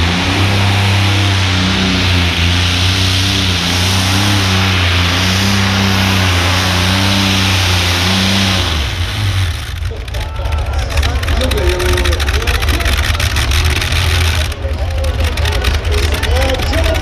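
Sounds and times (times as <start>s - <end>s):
tractor engine running flat out: 0.0s - 17.0s.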